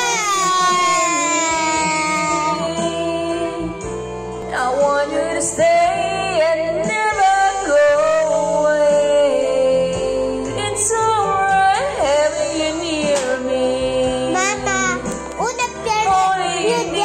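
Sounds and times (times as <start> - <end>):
person singing a ballad: 0.0 - 15.2, 15.8 - 17.0
karaoke backing track: 0.0 - 17.0.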